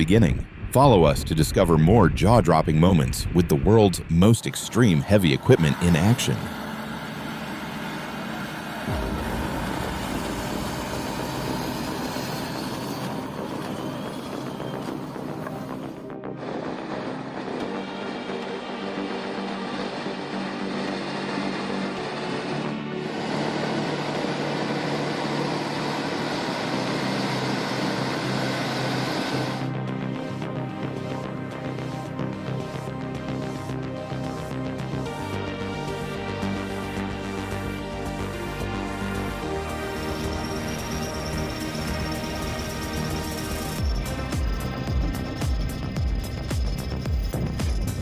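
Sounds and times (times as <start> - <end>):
heavy machine engine running: 4.8 - 32.0, 34.2 - 48.0.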